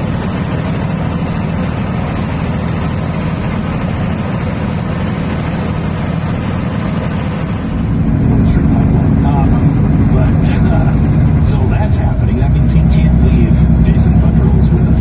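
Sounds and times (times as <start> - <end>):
road and wind noise: 0.0 - 15.0
truck engine rumble: 0.0 - 15.0.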